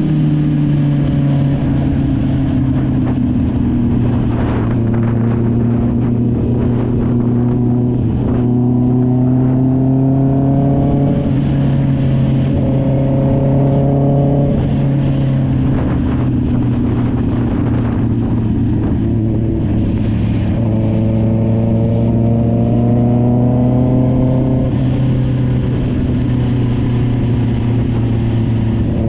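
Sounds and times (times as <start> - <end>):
motorcycle engine riding: 0.0 - 29.0.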